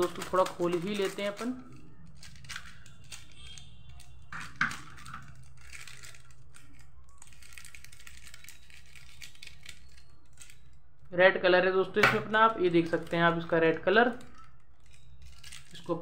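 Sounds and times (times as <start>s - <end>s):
scissors snipping plastic: 0.0s - 10.8s, 14.0s - 16.0s
plastic sachet crinkling: 0.0s - 11.1s, 12.1s - 16.0s.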